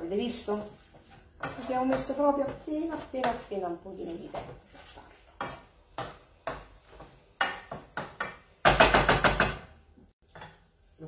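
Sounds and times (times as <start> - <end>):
wooden spoon knocking on pan: 1.0 - 4.6, 5.3 - 10.6.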